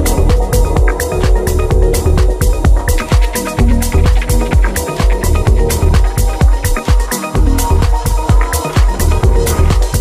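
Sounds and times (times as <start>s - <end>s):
melodic techno music: 0.0s - 10.0s
steady kick drum: 0.0s - 10.0s.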